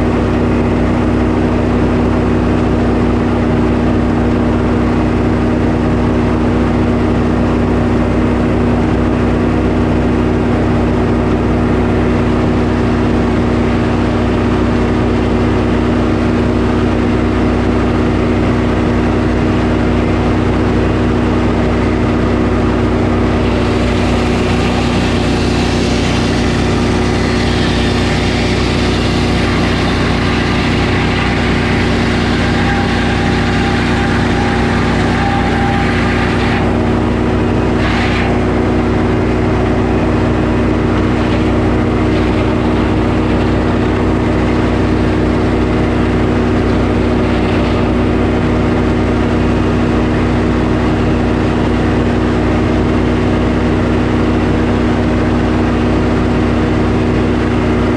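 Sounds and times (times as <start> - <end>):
saw cutting through log: 0.0 - 57.9
sawmill engine running: 0.0 - 57.9.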